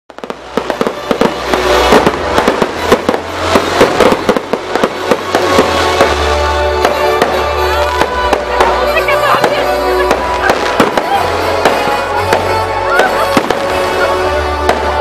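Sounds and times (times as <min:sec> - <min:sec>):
fireworks bangs and crackling: 0:00.1 - 0:15.0
music playing: 0:00.1 - 0:15.0.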